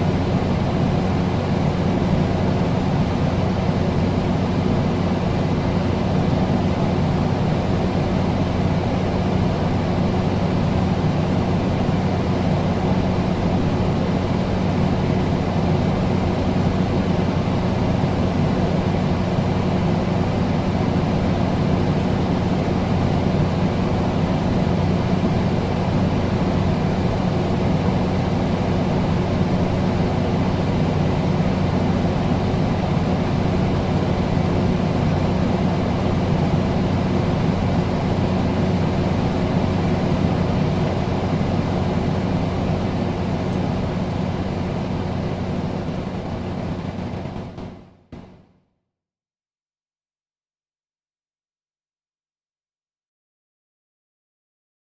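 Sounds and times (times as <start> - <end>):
constant low hum: 0.0 - 48.3
air conditioner airflow: 0.0 - 48.4.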